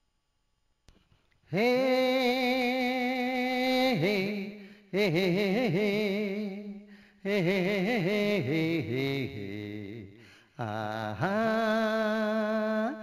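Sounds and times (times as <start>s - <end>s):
person singing wordless melody: 1.5s - 13.0s.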